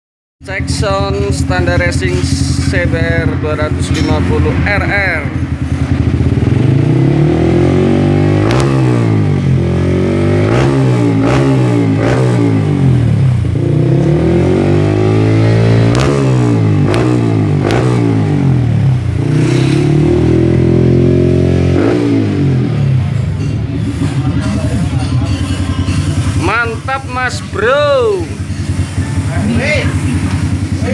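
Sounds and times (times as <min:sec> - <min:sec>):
motorcycle engine revving: 0:00.4 - 0:30.9.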